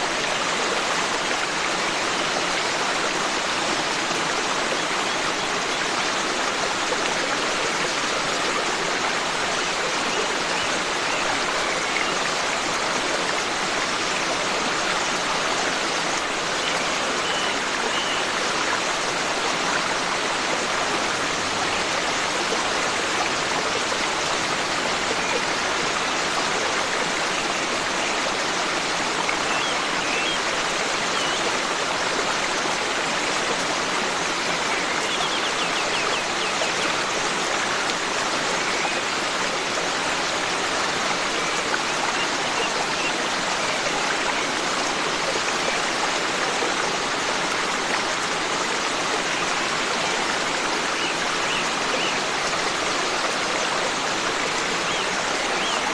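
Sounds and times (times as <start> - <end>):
stream running: 0.0 - 55.9.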